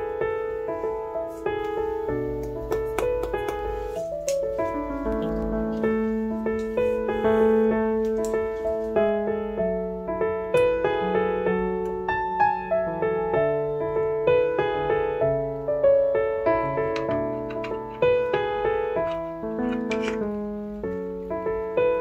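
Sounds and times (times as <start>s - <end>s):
piano melody: 0.0s - 22.0s.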